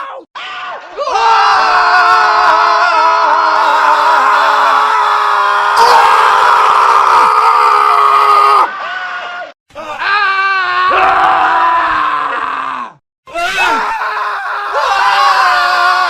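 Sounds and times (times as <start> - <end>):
men screaming: 0.4 - 16.0.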